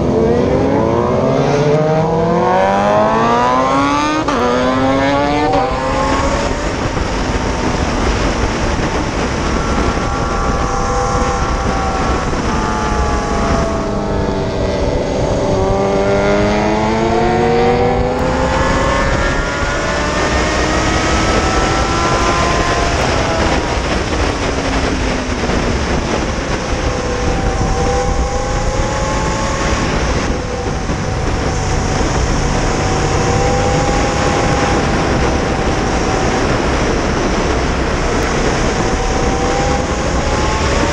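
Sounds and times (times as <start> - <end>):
electric motorcycle motor whine: 0.0 - 40.9
heavy wind rush: 0.0 - 40.9.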